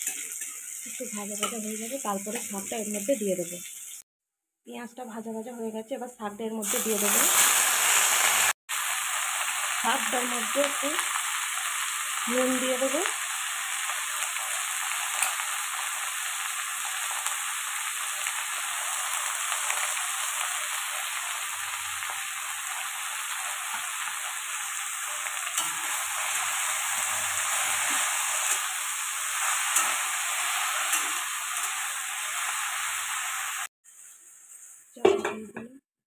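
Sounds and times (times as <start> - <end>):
leaves sizzling in hot oil: 0.0 - 4.1, 6.6 - 35.5.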